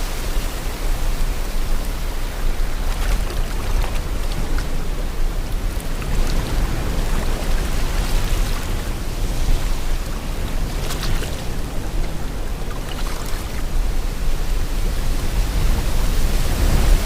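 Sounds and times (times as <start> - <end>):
sea water washing and splashing: 0.0 - 17.0
wind: 0.0 - 17.0.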